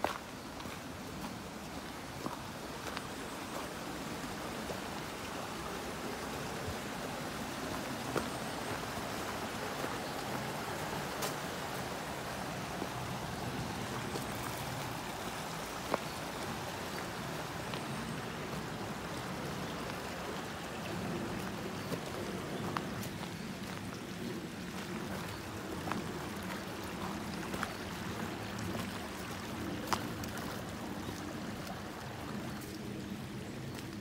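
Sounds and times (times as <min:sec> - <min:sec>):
brook babbling: 0:00.0 - 0:34.0.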